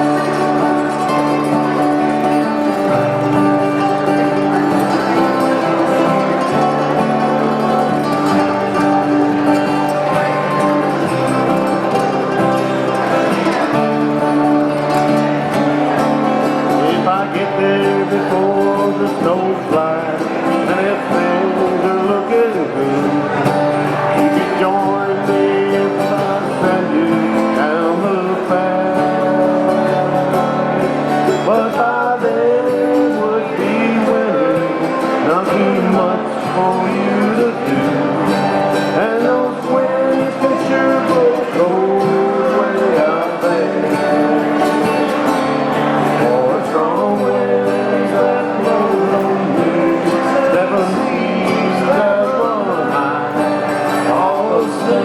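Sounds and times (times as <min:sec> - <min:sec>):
person singing: 0:00.0 - 0:55.0
strummed acoustic guitars: 0:00.0 - 0:55.0.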